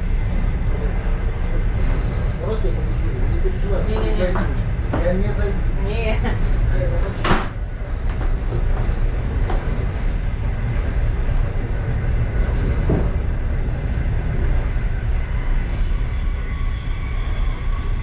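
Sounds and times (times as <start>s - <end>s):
train car rumbling on track: 0.0s - 18.0s.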